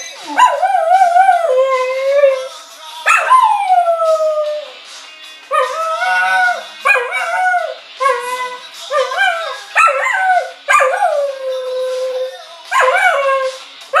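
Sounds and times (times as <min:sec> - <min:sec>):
music from phone speaker: 0:00.0 - 0:14.0
dog howling: 0:00.2 - 0:02.5, 0:03.1 - 0:04.7, 0:05.5 - 0:13.6.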